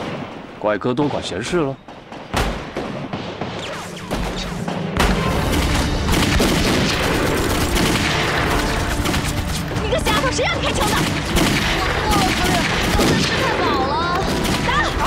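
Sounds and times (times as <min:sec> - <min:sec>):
gunfire from many guns: 0:00.0 - 0:15.0.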